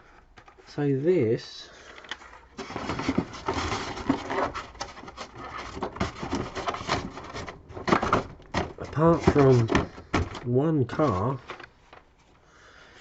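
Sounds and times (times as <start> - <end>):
plastic pieces rustling and clattering: 1.9 - 12.4.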